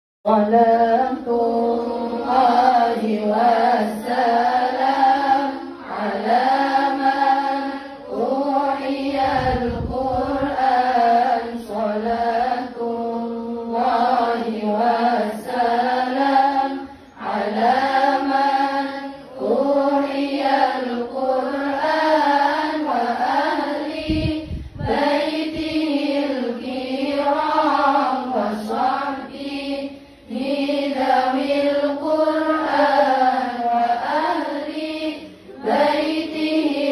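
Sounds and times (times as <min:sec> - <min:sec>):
woman singing devotional song: 0:00.3 - 0:36.9.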